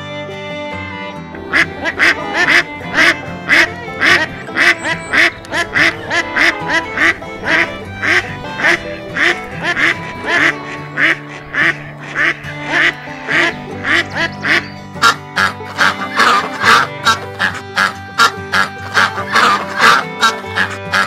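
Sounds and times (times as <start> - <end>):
background music: 0.0 - 21.0
duck quacking: 1.4 - 21.0.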